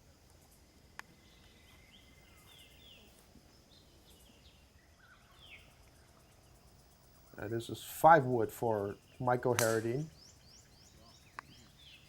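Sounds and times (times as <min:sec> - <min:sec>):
faint bird chirps: 0:00.5 - 0:12.0.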